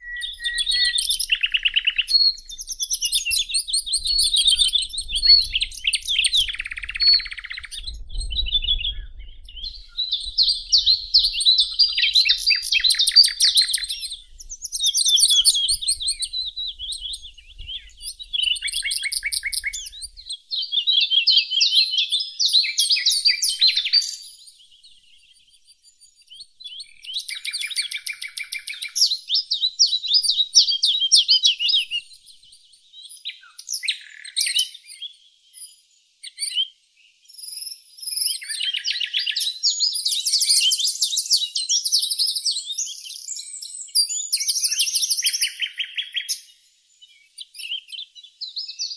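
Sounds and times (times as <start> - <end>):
songbirds trilling and chirping: 0.0 - 48.9.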